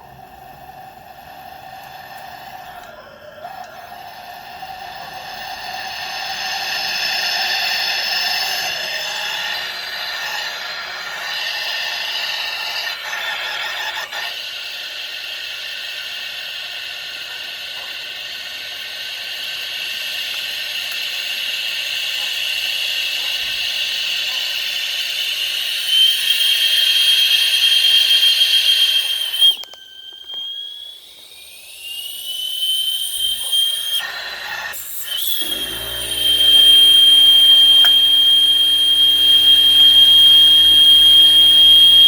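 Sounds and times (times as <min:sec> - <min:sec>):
compressed air hissing: 0:04.2 - 0:29.6, 0:33.4 - 0:42.0
whistle rising in pitch: 0:04.4 - 0:42.0
high whistle: 0:04.6 - 0:42.0.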